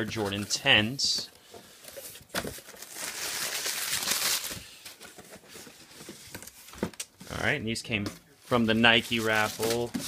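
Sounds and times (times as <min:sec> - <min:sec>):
cardboard and paper rustling: 0:00.0 - 0:10.0.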